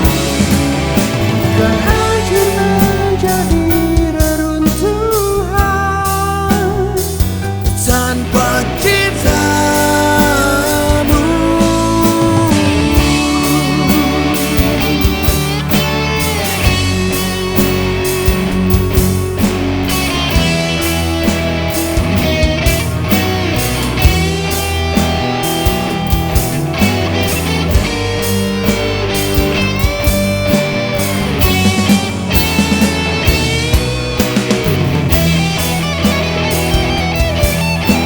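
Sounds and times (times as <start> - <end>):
bass and drums: 0.0 - 38.0
electric guitar lead lines: 0.0 - 38.0.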